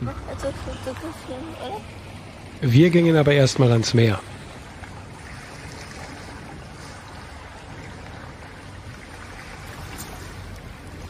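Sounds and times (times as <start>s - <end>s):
small waves on rocky shore: 0.0s - 11.0s.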